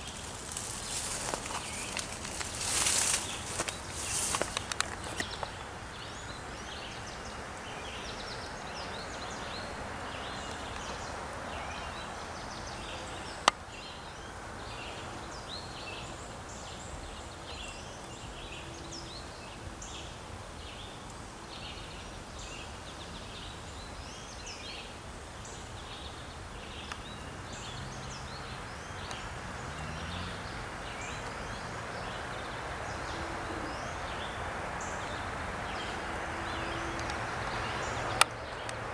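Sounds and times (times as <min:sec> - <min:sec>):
birds chirping: 0:00.0 - 0:17.9, 0:25.5 - 0:38.9
outdoor background hiss: 0:00.0 - 0:38.9.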